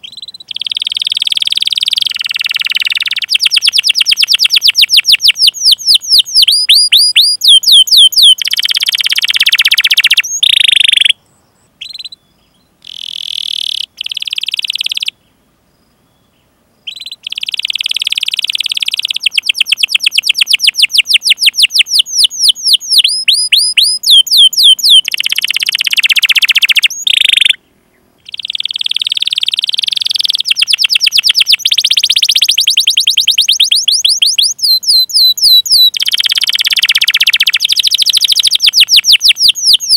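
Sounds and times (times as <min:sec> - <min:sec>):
canary call notes: 0:00.0 - 0:11.2, 0:11.8 - 0:15.2, 0:16.8 - 0:39.9
canary singing trills: 0:00.0 - 0:39.9.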